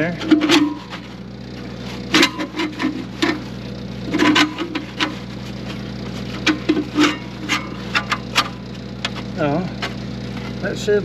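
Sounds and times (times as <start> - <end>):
metal knocks and clanks: 0.0 - 1.2, 2.1 - 10.5
steady low hum: 0.0 - 11.0.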